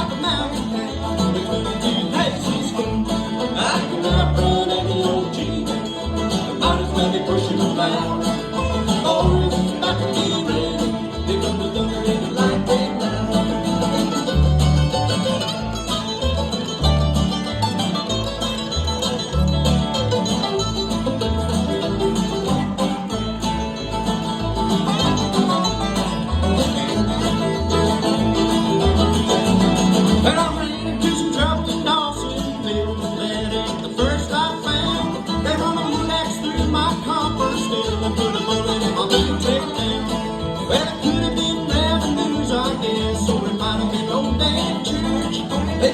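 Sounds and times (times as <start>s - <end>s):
bluegrass band playing: 0.0s - 45.9s.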